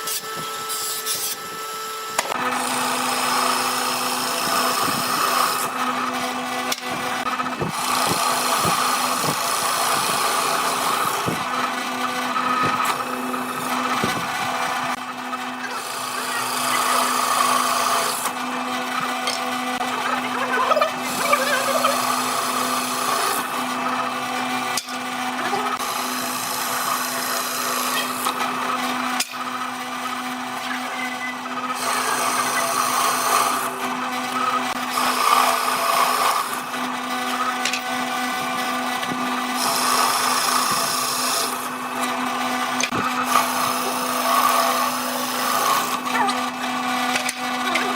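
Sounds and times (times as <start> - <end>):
power tool motor hum: 0.0 - 47.9
power tool rasping on wood: 2.2 - 47.9.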